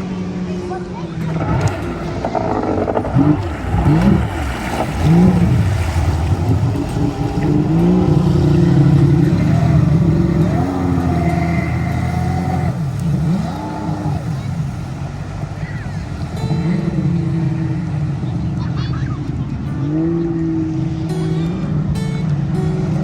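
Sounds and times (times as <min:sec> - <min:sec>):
jet ski engine revving: 0:00.0 - 0:23.0.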